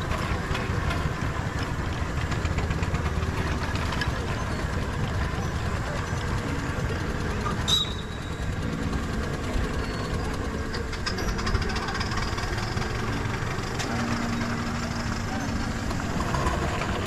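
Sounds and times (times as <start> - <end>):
miniature steam engines running: 0.0 - 17.0.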